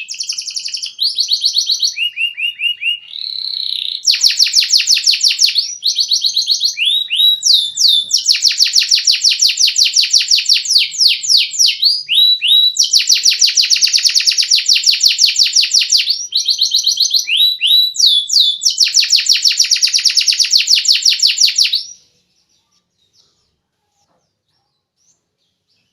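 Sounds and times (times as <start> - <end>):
canary singing trills: 0.0 - 25.9.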